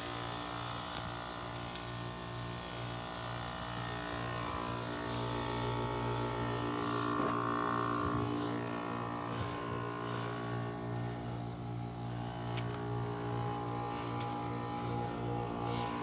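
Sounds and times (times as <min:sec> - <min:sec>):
heat pump buzzing hum: 0:00.0 - 0:16.0.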